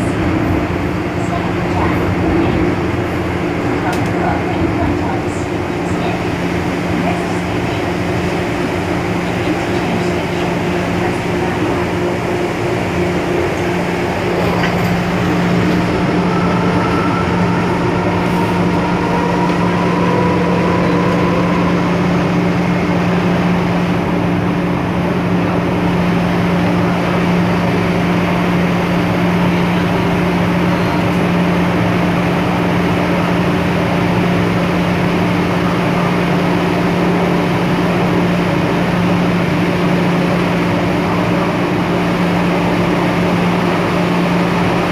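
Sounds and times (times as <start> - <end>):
train rolling and traction noise: 0.0 - 44.9.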